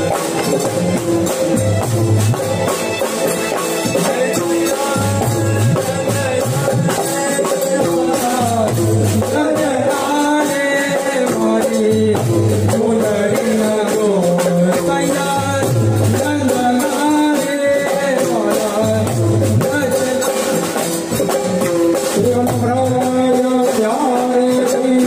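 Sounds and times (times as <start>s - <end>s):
drum kit: 0.0s - 25.0s
fast rattling percussion: 0.0s - 25.0s
person singing: 3.7s - 25.0s.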